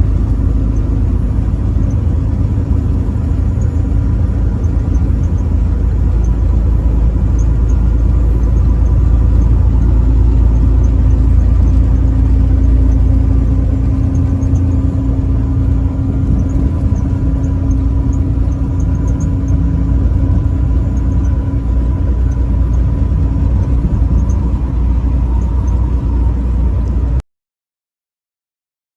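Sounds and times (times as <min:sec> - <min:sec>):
faint steady drone: 0:00.0 - 0:27.2
truck engine and road noise: 0:00.0 - 0:27.2.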